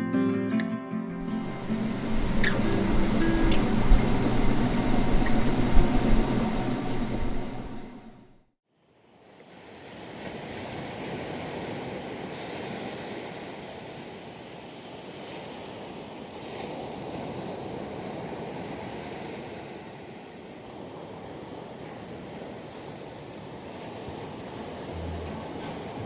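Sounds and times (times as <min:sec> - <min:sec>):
ocean waves rushing: 0:01.2 - 0:08.1, 0:09.5 - 0:26.0.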